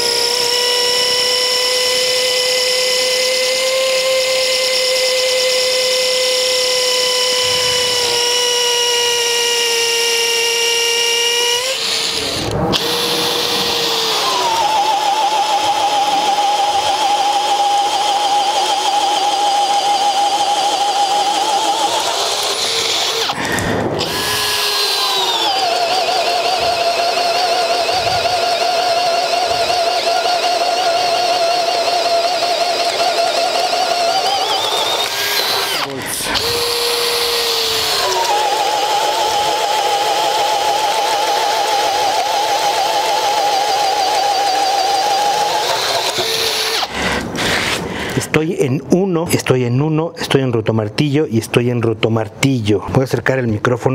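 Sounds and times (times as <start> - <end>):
hammer drill motor whine: 0.0 - 48.2.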